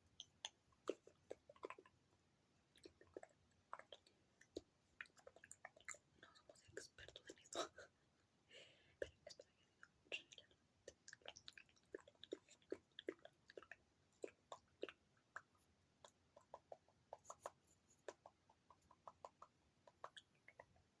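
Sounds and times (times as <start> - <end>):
tongue clicks: 0.2 - 2.0, 2.7 - 7.8, 9.0 - 20.8
wet mouth clicks and smacks: 0.2 - 2.0, 2.7 - 7.7, 9.0 - 20.9.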